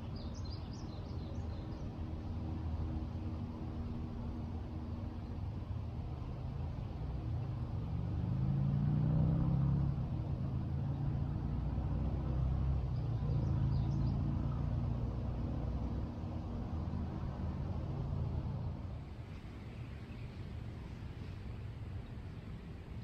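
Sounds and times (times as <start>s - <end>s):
vehicle engine rumble passing: 0.0s - 23.0s.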